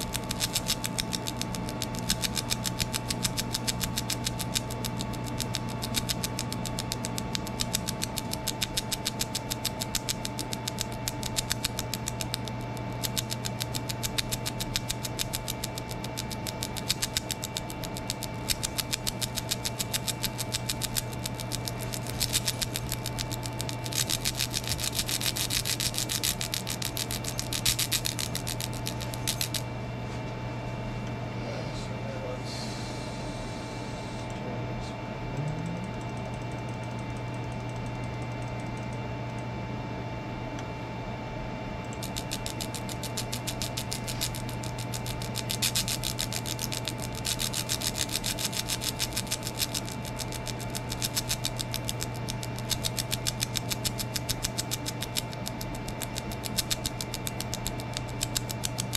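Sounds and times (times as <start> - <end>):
rapid laser ticking: 0.0 - 29.7, 35.6 - 38.9, 41.9 - 58.9
machine and fan hum: 0.0 - 58.9.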